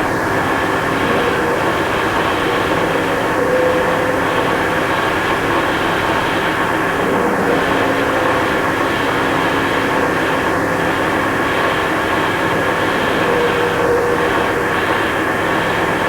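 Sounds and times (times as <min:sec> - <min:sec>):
faint held hum tones: 0:00.0 - 0:16.0.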